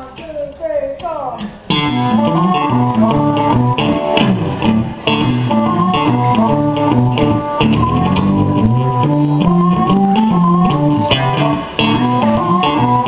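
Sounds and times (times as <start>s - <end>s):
electric guitar blues: 1.4s - 13.0s
amplified harmonica: 1.7s - 13.0s.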